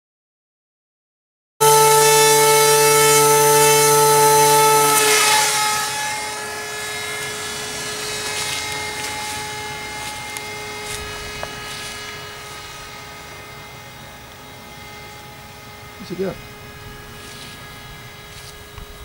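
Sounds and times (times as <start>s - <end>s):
drone propeller buzzing whine: 1.6s - 19.0s.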